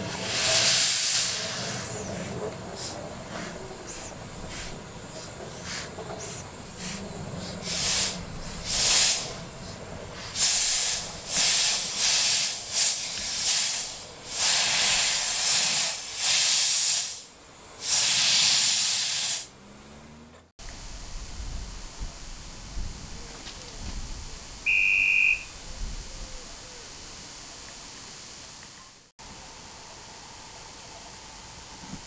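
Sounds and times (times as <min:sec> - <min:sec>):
steam locomotive hissing steam: 0:00.0 - 0:19.5, 0:20.6 - 0:32.0.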